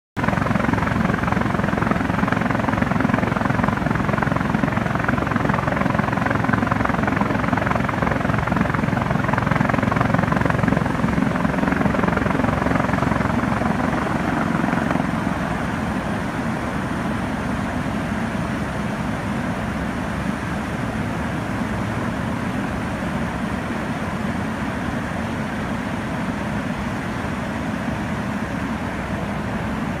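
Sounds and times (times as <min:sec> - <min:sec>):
helicopter rotor and turbine engines: 0:00.2 - 0:30.0.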